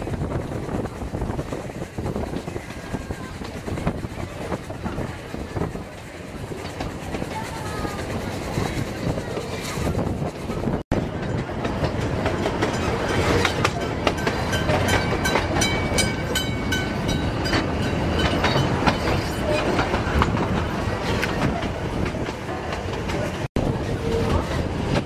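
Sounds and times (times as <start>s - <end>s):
steam train rumbling: 0.0s - 25.0s
wheels clacking over rail joints: 0.1s - 25.0s.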